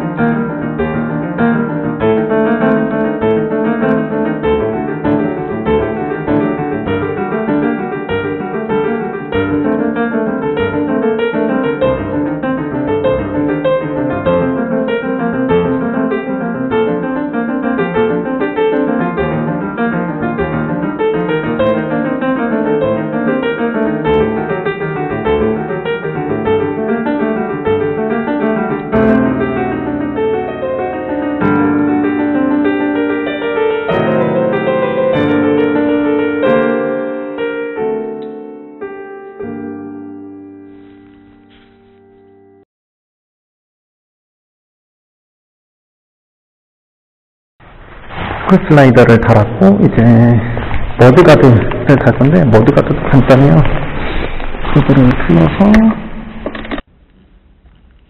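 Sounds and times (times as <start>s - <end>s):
piano music: 0.0s - 42.7s, 47.7s - 56.9s.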